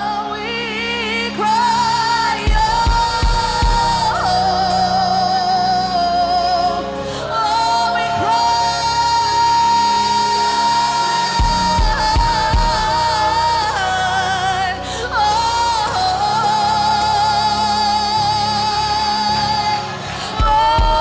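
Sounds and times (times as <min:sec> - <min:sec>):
band sustained chords: 0:00.0 - 0:21.0
person singing with vibrato: 0:00.0 - 0:21.0.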